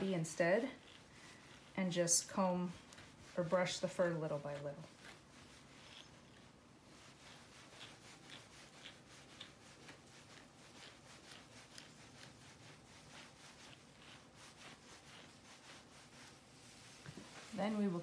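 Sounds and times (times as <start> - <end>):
brush strokes through fur: 0.0 - 18.0.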